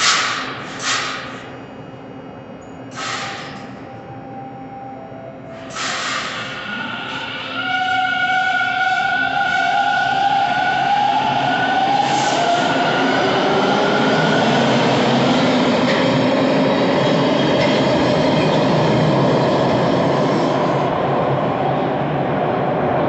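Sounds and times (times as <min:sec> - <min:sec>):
train wheels on rails: 0:00.0 - 0:01.6, 0:02.9 - 0:03.8, 0:05.5 - 0:21.7.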